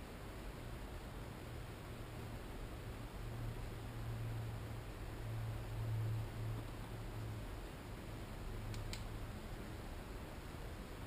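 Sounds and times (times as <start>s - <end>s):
low hum: 0.0s - 11.0s
steady background hiss: 0.0s - 11.0s.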